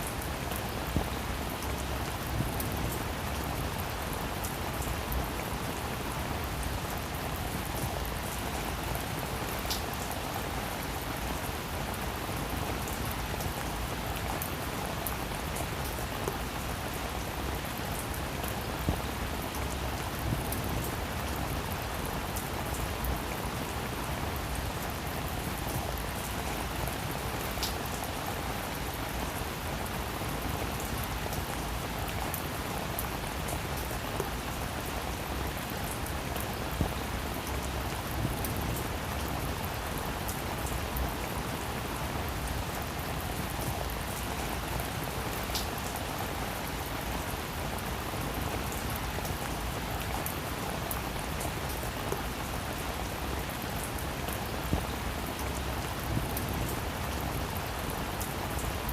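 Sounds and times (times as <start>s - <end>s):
heavy rain: 0.0s - 58.9s
raindrops splatting close by: 0.0s - 58.9s.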